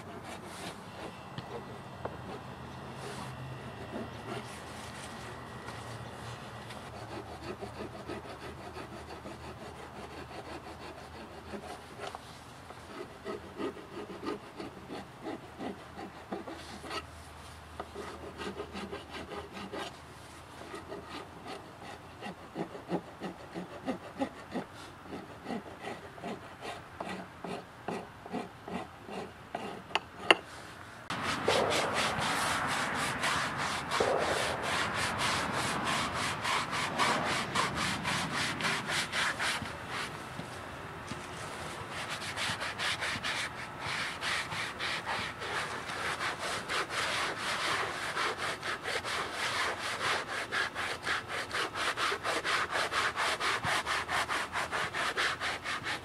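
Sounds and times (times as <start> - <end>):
abrasive scraping wood: 0.0 - 17.0, 17.8 - 56.0
steady sanding noise: 0.0 - 56.0.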